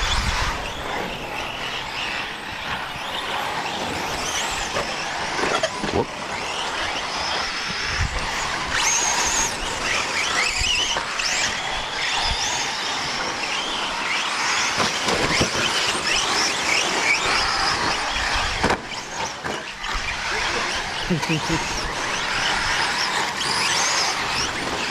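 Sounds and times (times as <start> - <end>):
toy truck motors whining: 0.0 - 24.9.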